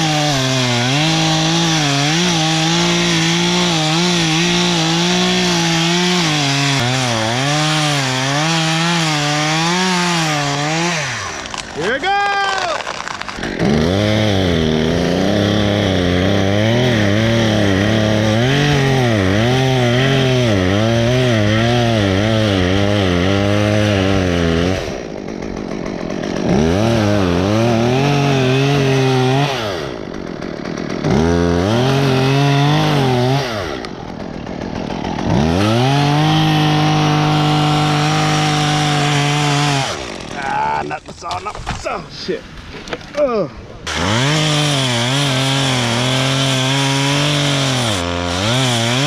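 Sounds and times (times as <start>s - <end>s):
chainsaw cutting wood: 0.0s - 49.0s.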